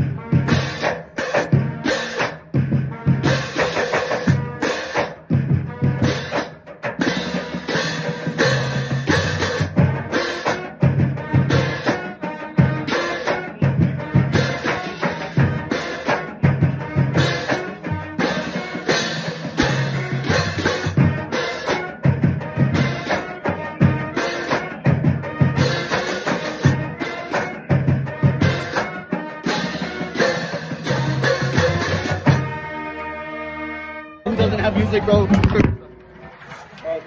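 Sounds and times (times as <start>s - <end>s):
bass drums: 0.0s - 32.7s, 34.3s - 35.9s
snare drums: 0.0s - 32.8s, 34.4s - 37.0s.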